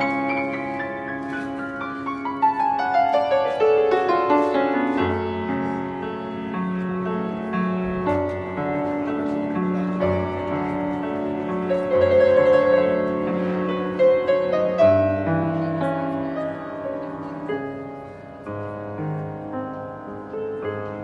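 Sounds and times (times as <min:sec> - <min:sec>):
slow lyrical piano melody: 0:00.0 - 0:21.0.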